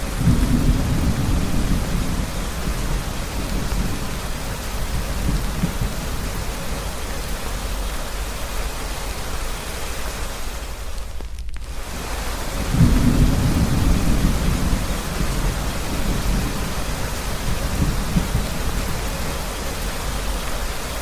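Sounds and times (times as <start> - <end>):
thunder rumbling: 0.0 - 7.8, 11.4 - 21.0
steady rain: 0.0 - 21.0.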